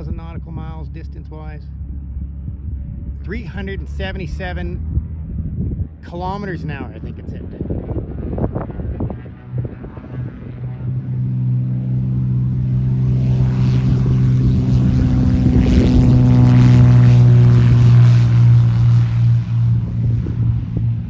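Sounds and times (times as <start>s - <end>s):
aircraft engine and propeller drone: 0.0s - 21.0s
wind buffeting microphone: 0.0s - 21.0s.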